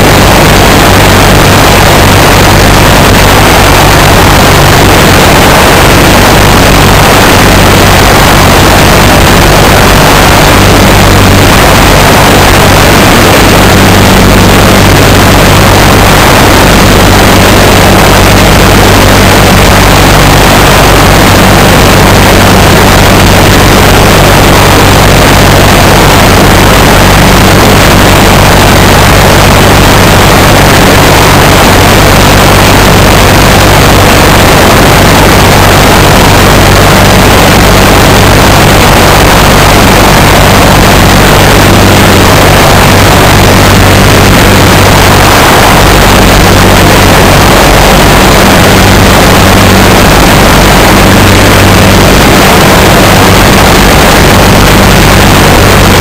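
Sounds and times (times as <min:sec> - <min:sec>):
aircraft engine and propeller: 0:00.0 - 0:56.0
rush of air: 0:00.0 - 0:56.0.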